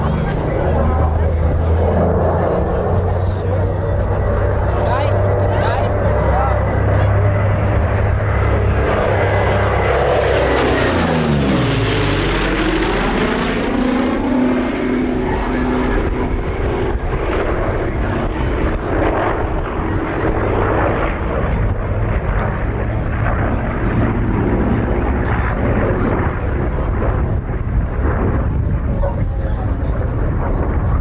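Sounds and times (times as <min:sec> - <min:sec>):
propeller aircraft engines passing: 0:00.0 - 0:31.0.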